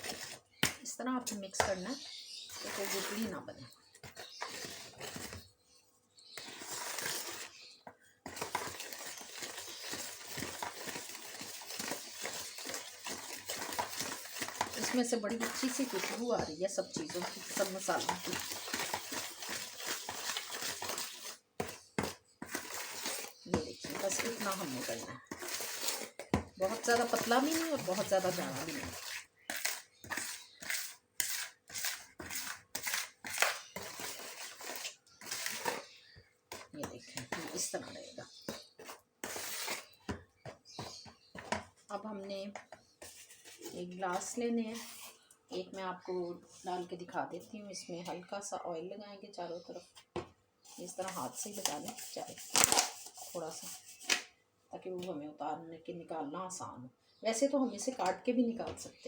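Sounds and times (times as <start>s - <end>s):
stirring plaster in a bowl: 0.0s - 48.8s, 49.4s - 54.4s.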